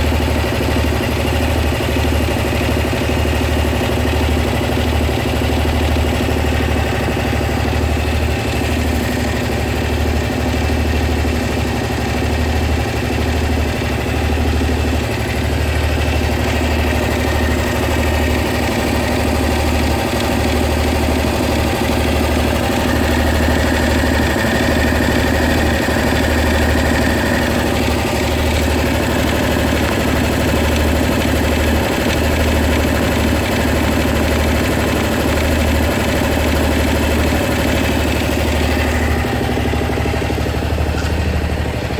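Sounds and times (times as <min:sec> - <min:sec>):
scooter engine idling with ticking: 0:00.0 - 0:41.9.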